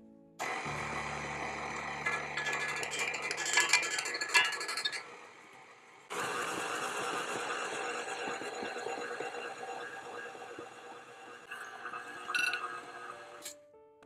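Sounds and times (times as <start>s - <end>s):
stand mixer running: 0.4s - 13.5s.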